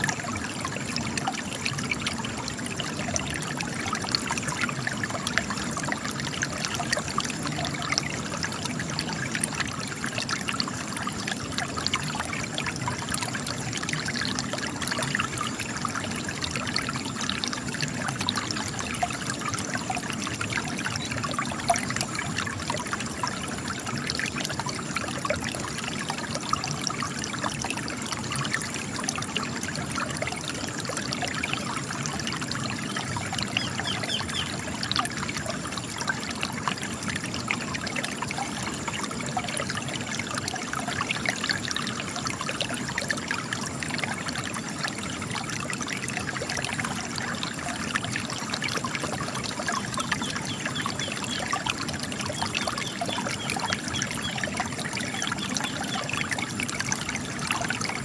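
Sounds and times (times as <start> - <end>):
spring water trickling and splashing: 0.0 - 58.0.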